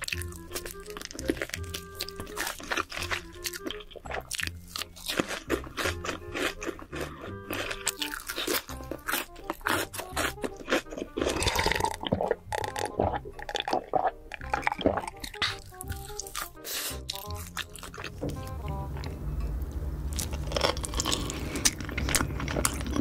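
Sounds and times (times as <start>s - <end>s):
crunching and chewing food: 0.0s - 19.1s, 20.1s - 23.0s
background music: 0.0s - 23.0s.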